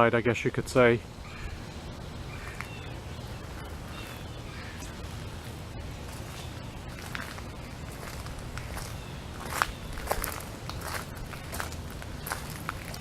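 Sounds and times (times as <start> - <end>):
low outdoor background: 0.0 - 13.0.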